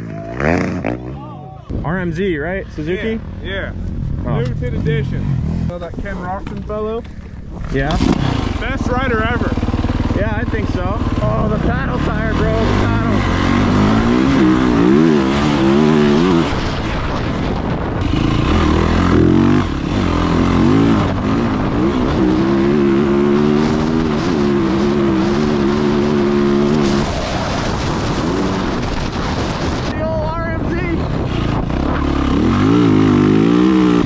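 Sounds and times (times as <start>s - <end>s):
dirt bike engine revving: 0.0s - 1.4s, 2.4s - 5.8s, 7.5s - 30.0s, 31.0s - 34.0s.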